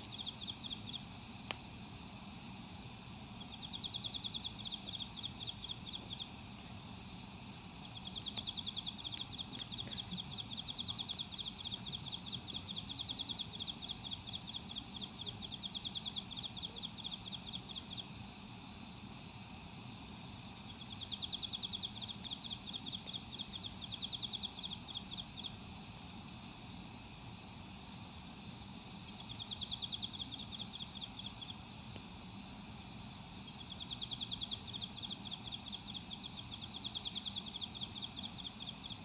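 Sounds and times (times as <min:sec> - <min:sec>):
insect trilling: 0:00.0 - 0:39.0
outdoor background hum: 0:00.0 - 0:39.0.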